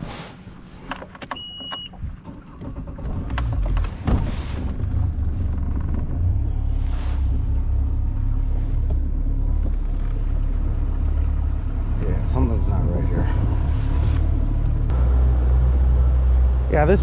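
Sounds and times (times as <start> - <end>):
boat motor rumbling: 0.0 - 17.0
water noise: 0.0 - 17.0
wind: 0.0 - 17.0.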